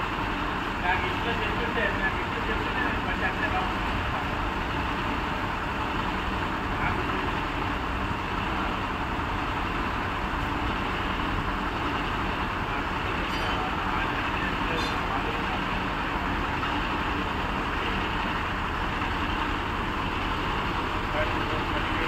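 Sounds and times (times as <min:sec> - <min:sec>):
crane diesel engine running: 0:00.0 - 0:22.0.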